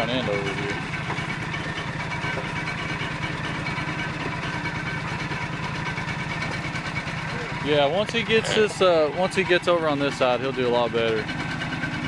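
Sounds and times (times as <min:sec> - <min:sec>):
small tractor engine running: 0:00.0 - 0:12.0.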